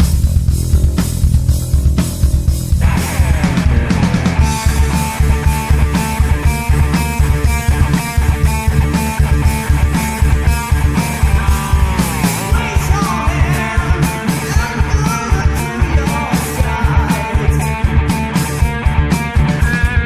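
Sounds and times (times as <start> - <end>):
heavy metal band playing: 0.0 - 20.0.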